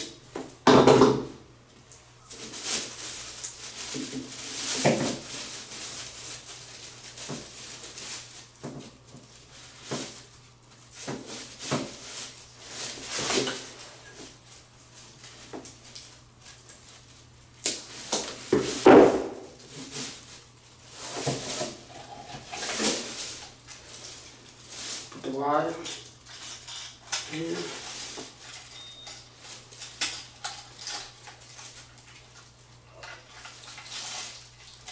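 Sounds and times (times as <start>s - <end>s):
wire handling rustles and clicks: 1.7s - 34.9s.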